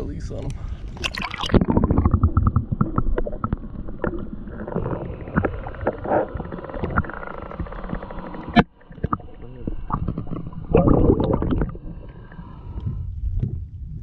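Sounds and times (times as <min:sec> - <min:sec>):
underwater sloshing and rumbling: 0:00.0 - 0:14.0
small underwater clicks and pops: 0:00.3 - 0:11.8.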